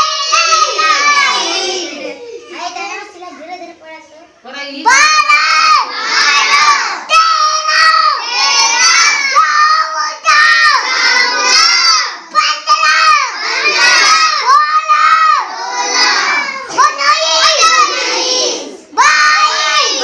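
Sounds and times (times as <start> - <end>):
children shouting excitedly: 0.0 - 3.5, 4.8 - 20.0.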